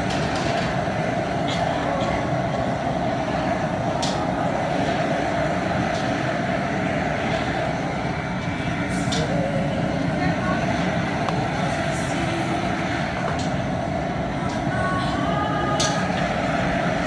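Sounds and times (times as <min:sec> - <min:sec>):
gas burner roaring: 0:00.0 - 0:17.0
water at a rolling boil: 0:00.0 - 0:17.0.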